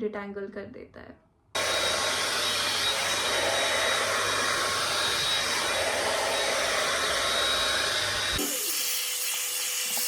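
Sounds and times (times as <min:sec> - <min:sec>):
hot air brush dryer blowing: 0:01.6 - 0:10.0.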